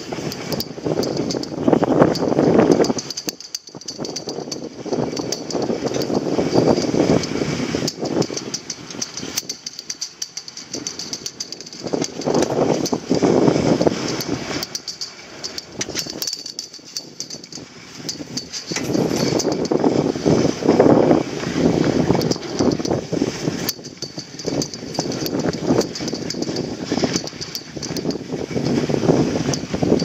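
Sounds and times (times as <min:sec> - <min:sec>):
small clicks and rattles: 0:00.0 - 0:20.5, 0:21.4 - 0:30.0.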